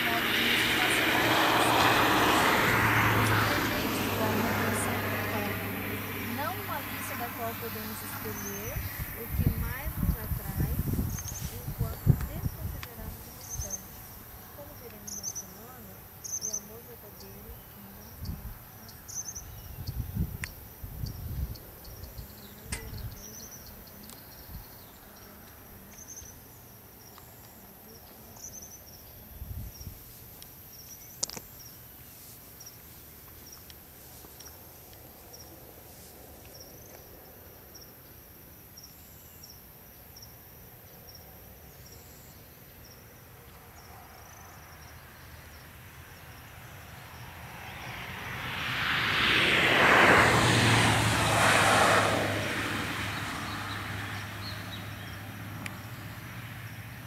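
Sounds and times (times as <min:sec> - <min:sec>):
vehicle passing on road: 0:00.0 - 0:39.3, 0:41.4 - 0:57.0
insects chirping: 0:00.0 - 0:49.5.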